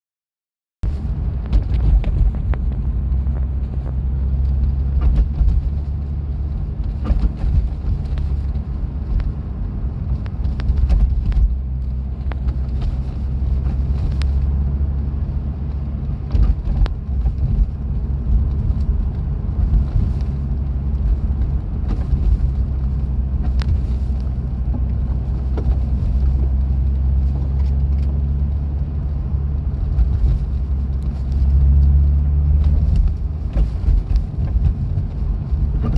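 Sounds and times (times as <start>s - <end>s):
car engine droning: 0.9s - 35.9s.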